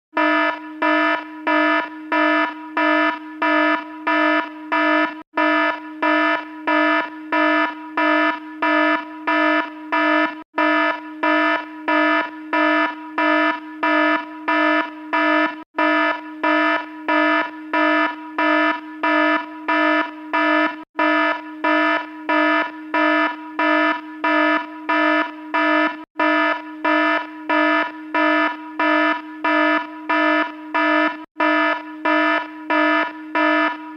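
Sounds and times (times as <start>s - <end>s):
buzzy electronic alarm beeping: 0.1s - 33.9s.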